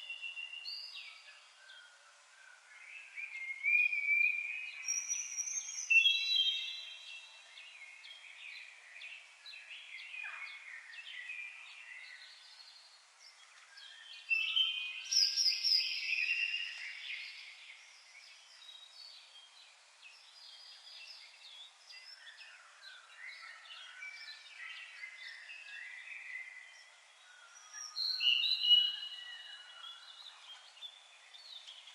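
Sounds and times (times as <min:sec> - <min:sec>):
songbirds singing and chirping: 0:00.0 - 0:31.9.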